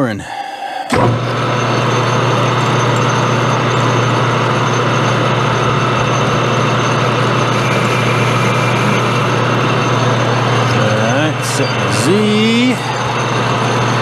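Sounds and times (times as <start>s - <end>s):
metal lathe running: 0.8s - 14.0s.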